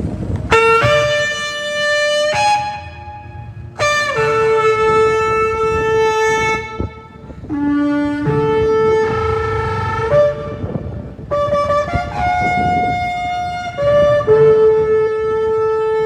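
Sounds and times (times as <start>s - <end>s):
shofar blasts: 0.5s - 16.0s.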